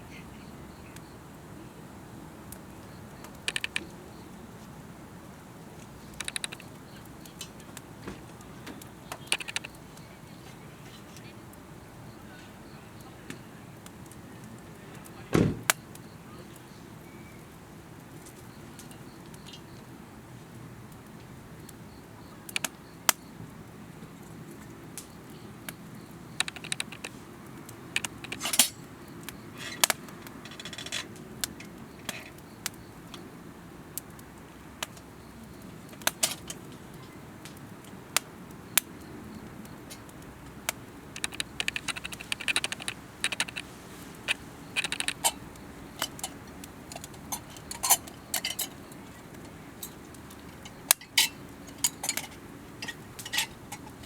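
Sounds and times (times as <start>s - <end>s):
wood fire crackling and popping: 2.2s - 54.0s.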